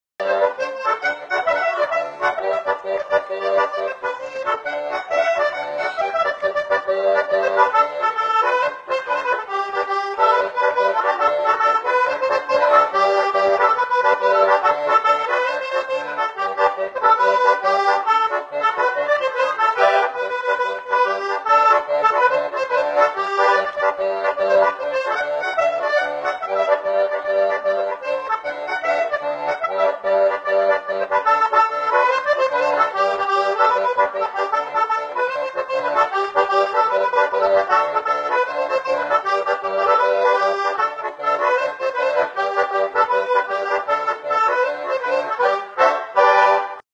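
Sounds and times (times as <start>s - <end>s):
accordion playing a tune: 0.2s - 46.9s.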